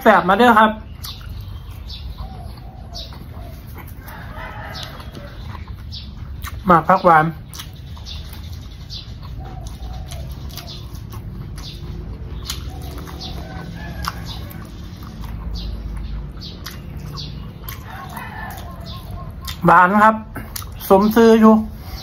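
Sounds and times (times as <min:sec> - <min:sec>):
chewing crunchy berries: 0:00.3 - 0:22.0.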